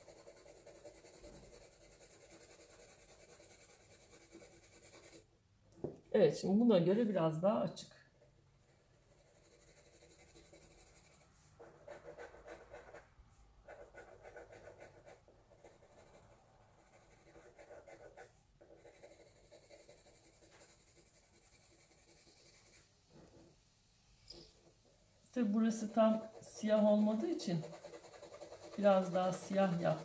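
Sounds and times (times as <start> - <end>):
pencil scratching on paper: 0.0 - 5.3, 8.6 - 23.5, 25.4 - 30.0.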